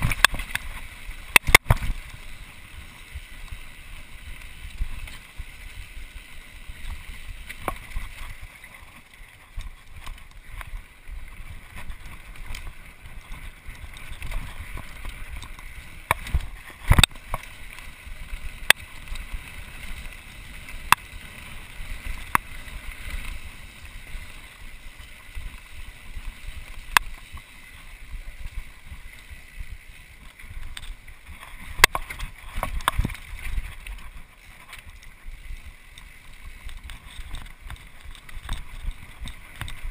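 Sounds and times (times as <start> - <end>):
bike tyre rumble on dirt: 0.0 - 39.9
bike clacking and rattling: 4.4 - 39.9.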